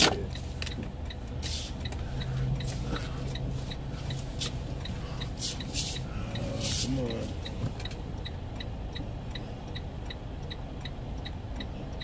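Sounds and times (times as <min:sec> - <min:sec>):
diesel truck engine running low: 0:00.0 - 0:12.0
faint rapid ticking: 0:00.2 - 0:12.0.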